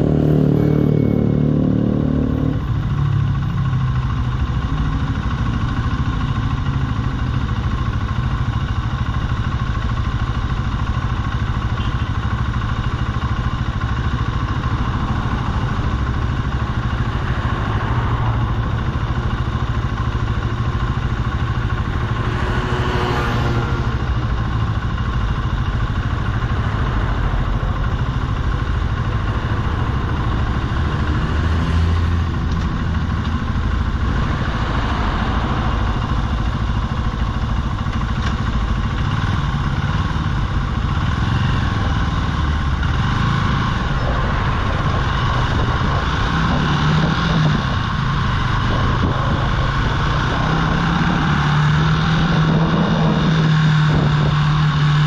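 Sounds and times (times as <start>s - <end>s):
motorcycle engine idling: 2.2s - 55.0s.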